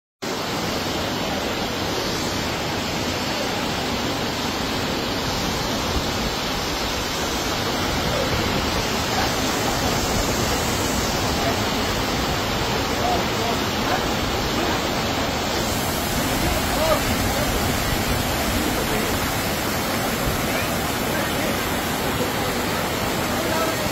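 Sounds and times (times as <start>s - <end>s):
floodwater rushing: 0.2s - 23.9s.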